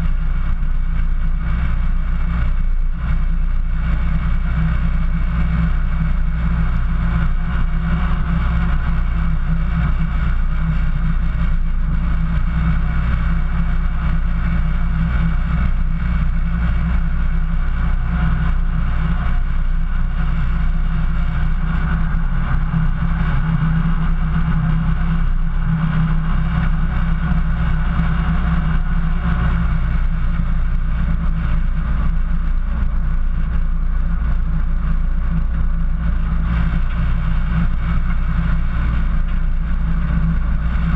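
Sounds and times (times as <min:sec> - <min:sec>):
vehicle engine running steadily: 0:00.0 - 0:40.9.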